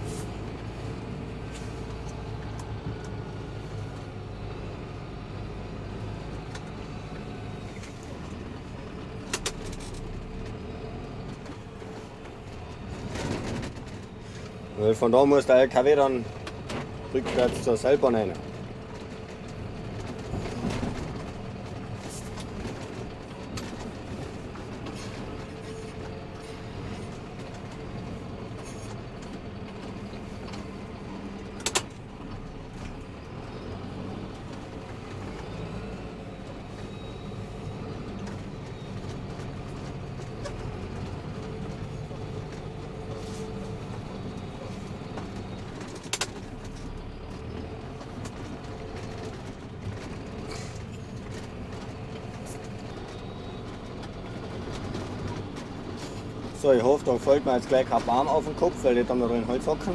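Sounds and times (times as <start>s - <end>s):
tractor engine running: 0.0s - 59.9s
plough pushing snow: 9.3s - 59.9s.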